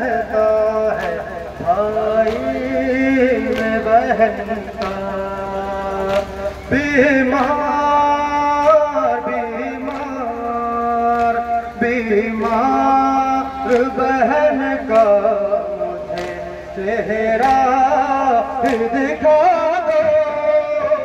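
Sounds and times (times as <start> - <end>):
man chanting through microphone: 0.0 - 21.0.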